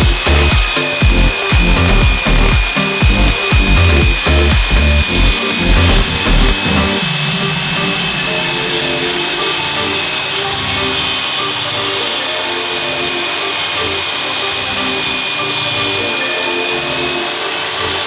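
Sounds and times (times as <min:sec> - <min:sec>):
power tool motor whining: 0:00.0 - 0:18.0.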